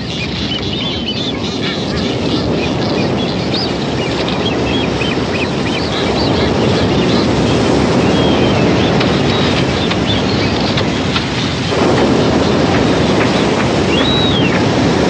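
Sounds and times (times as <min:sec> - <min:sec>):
seabirds calling in high whistles: 0:00.0 - 0:15.0
steady rushing noise: 0:00.0 - 0:15.0.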